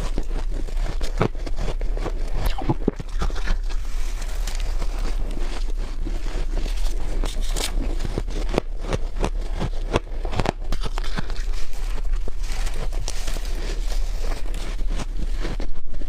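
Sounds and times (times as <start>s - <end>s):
crunching freezer frost: 0.0s - 16.0s.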